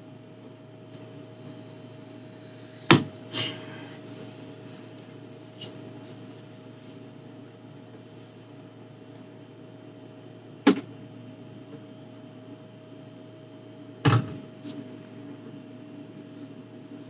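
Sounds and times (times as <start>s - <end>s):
steady fridge hum: 0.0s - 17.0s.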